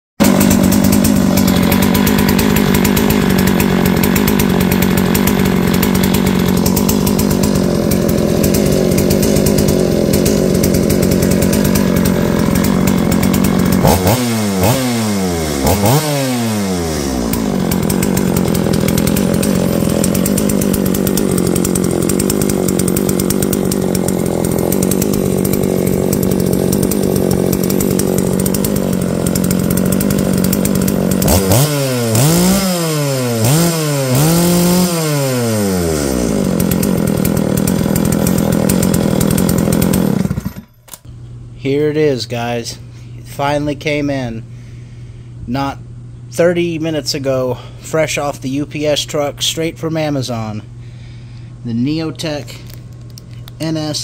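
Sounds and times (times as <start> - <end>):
chainsaw idling and revving: 0.2 - 41.1, 46.4 - 54.0.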